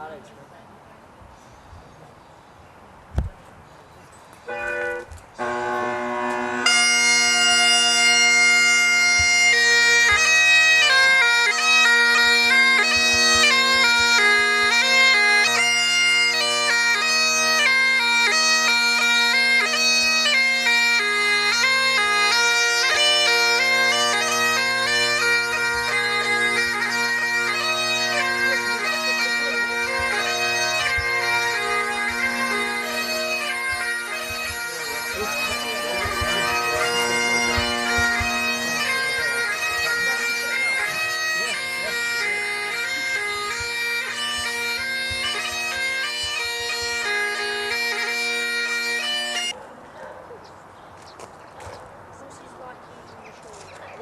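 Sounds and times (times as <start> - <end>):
bagpipes playing: 4.4 - 49.6.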